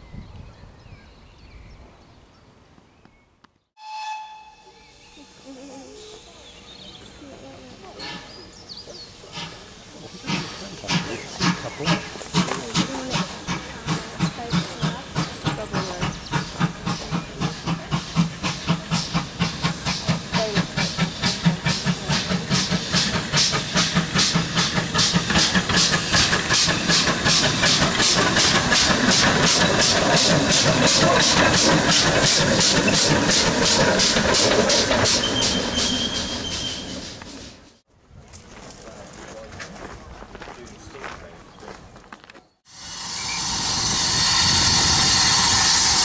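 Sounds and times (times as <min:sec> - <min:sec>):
steam locomotive chuffing: 0:03.8 - 0:37.9, 0:42.7 - 0:46.0.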